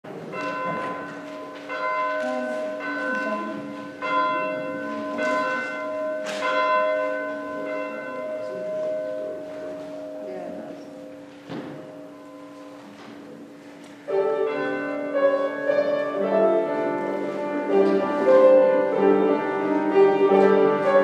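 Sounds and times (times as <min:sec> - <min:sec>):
church bell ringing: 0:00.1 - 0:21.0.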